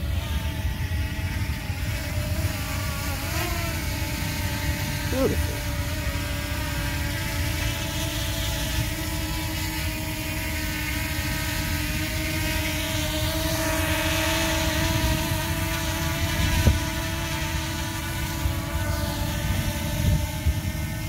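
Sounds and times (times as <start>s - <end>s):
drone propellers whirring: 0.0s - 21.0s.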